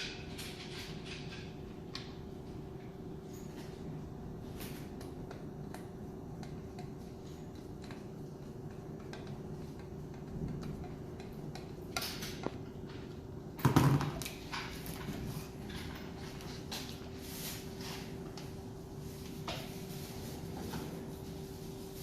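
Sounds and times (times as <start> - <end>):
fan parts clattering: 0.0 - 5.6, 6.4 - 22.0.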